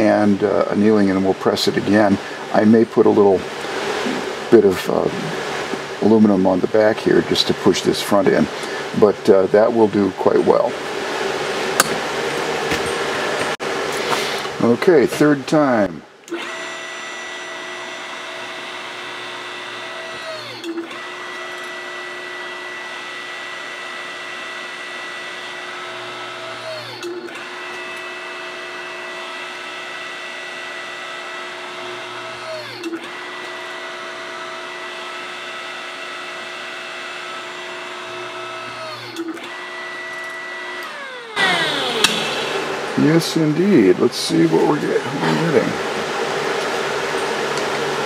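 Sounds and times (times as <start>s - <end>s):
hydraulic pump humming: 0.0s - 48.0s.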